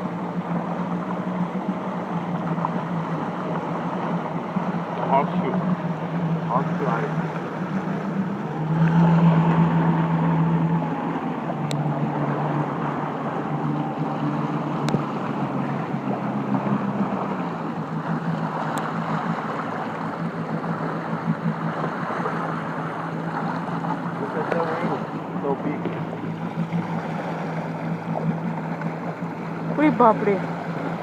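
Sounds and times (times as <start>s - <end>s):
jet ski engine running: 0.0s - 31.0s
rushing water: 0.0s - 31.0s.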